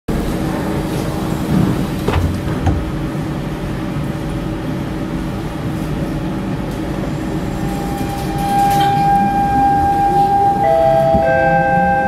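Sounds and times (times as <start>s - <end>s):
train interior hum and rumble: 0.1s - 12.0s.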